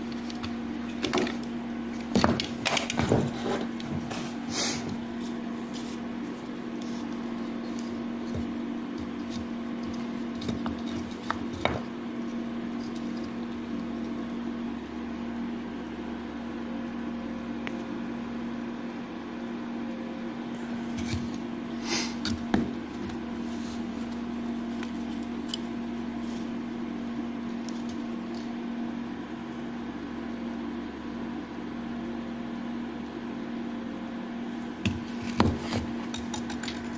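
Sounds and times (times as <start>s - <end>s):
cnc router humming: 0.0s - 36.9s.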